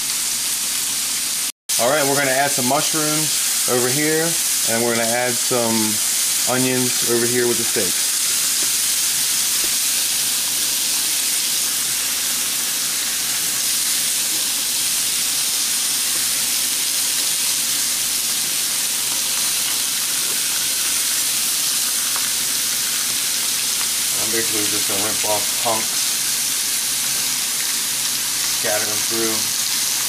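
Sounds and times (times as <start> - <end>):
meat sizzling on grill pan: 0.0 - 30.0.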